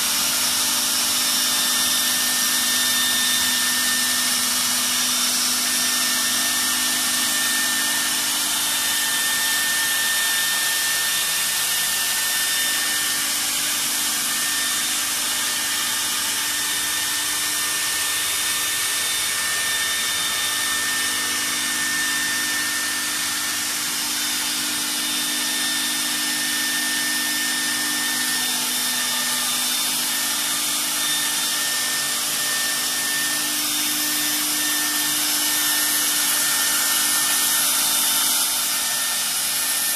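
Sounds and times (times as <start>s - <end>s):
router spindle whine and hiss: 0.0s - 39.9s.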